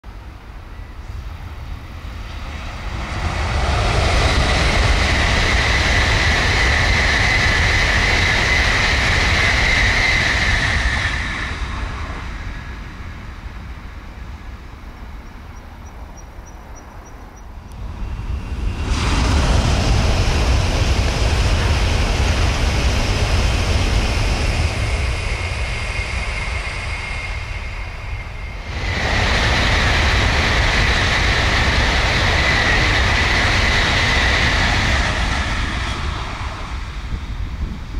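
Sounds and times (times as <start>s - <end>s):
high train whine: 0.0s - 37.9s
high-speed train rushing past: 0.0s - 37.9s.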